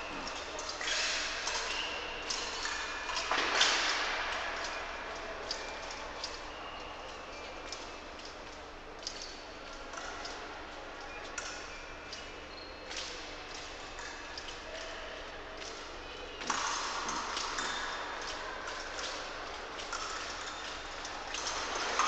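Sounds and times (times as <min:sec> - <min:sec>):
sports hall ambience: 0:00.0 - 0:22.0.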